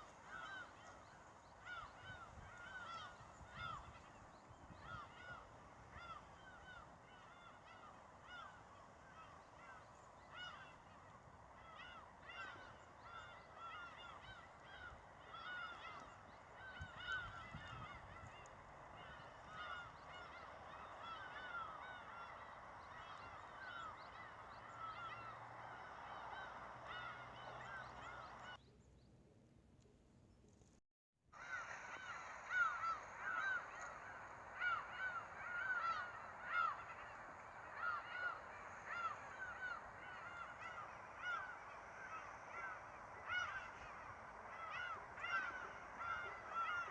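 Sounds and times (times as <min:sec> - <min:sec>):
flock of birds honking: 0:00.0 - 0:28.6, 0:31.4 - 0:46.9.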